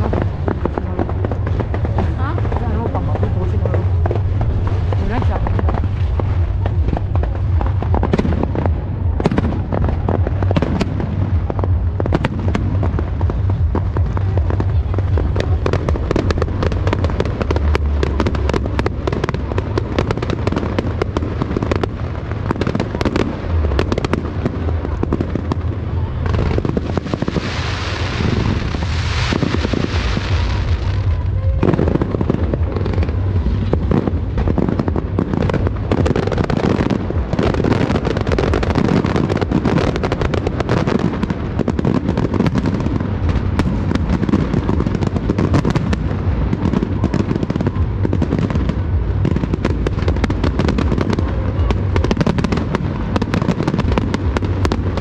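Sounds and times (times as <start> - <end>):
fireworks bangs and crackles: 0.0 - 55.0
ground fountain firework hissing: 0.0 - 55.0.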